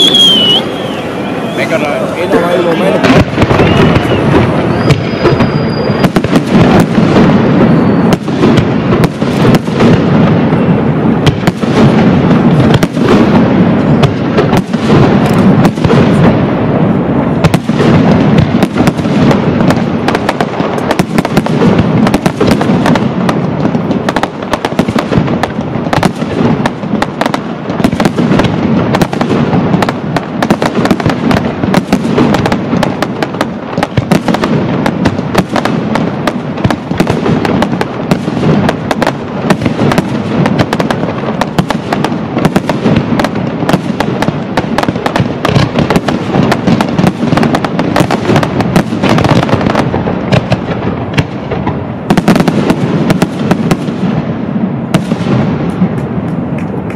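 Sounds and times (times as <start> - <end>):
fireworks bursts and bangs: 0.0 - 56.9.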